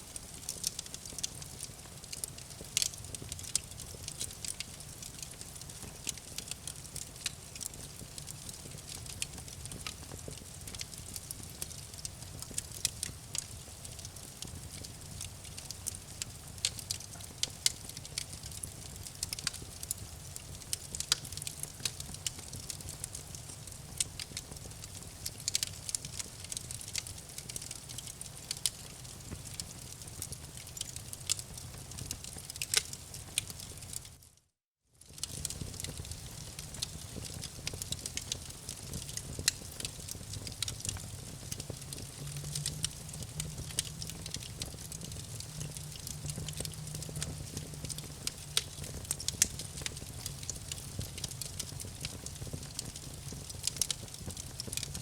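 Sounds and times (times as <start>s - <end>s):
campfire crackling: 0.1s - 34.2s, 35.0s - 55.0s.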